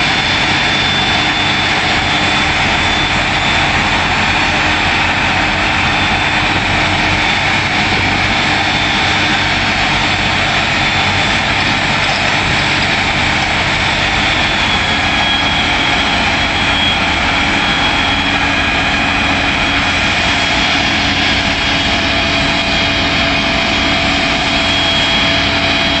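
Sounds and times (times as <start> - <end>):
heavy engine running: 0.0 - 26.0.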